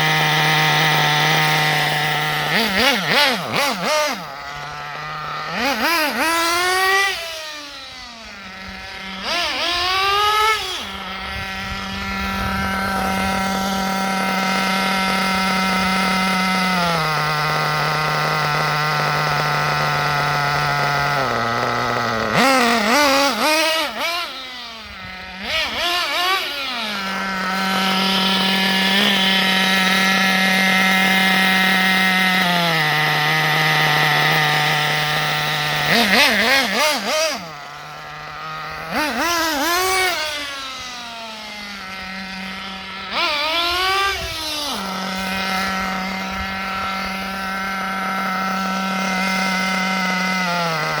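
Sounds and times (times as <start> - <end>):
small engine idling and revving: 0.0 - 51.0.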